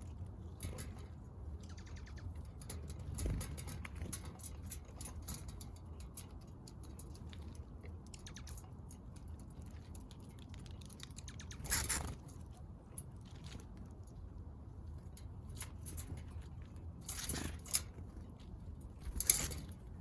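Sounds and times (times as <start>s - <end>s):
birds pecking at seed: 0.0s - 20.0s.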